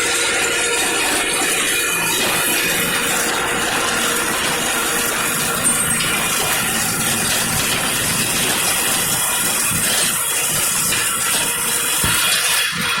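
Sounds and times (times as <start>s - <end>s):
machine hissing: 0.0s - 13.0s.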